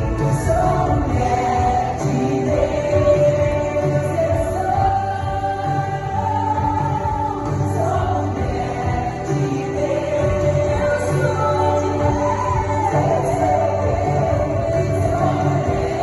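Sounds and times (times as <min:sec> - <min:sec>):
gospel song singing: 0:00.0 - 0:16.0
steady bass accompaniment: 0:00.0 - 0:16.0.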